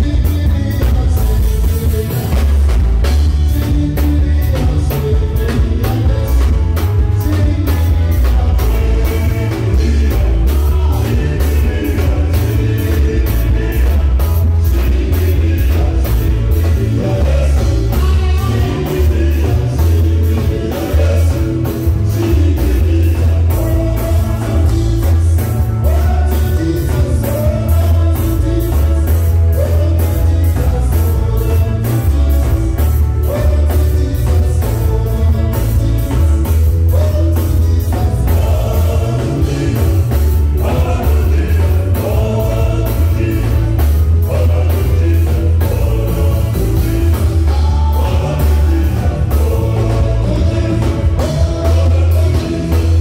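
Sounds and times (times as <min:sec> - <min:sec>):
dance music with singing: 0:00.0 - 0:53.0.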